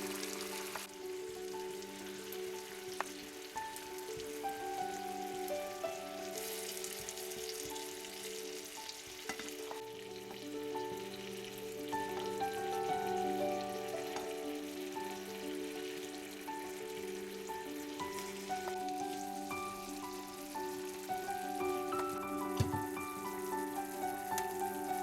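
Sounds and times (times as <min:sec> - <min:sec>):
food sizzling in oil: 0:00.0 - 0:25.0
gentle background music: 0:00.0 - 0:25.0.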